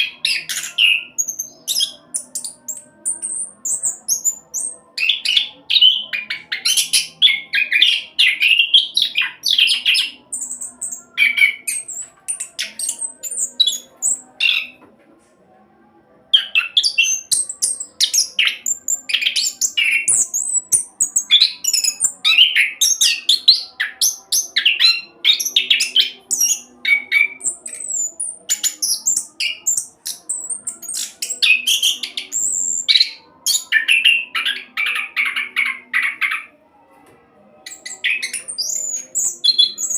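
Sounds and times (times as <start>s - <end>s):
thrush singing rapid whistles: 0.0s - 14.8s, 16.4s - 36.2s, 37.7s - 39.9s.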